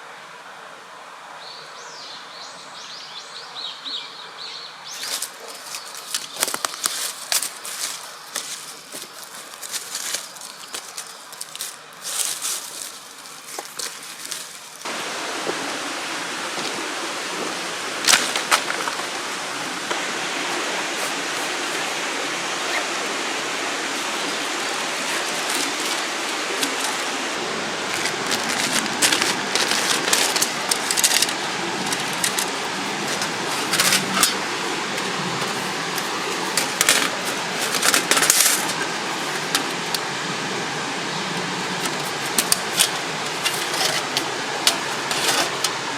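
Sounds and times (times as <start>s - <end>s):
river water rushing: 5.2s - 45.9s.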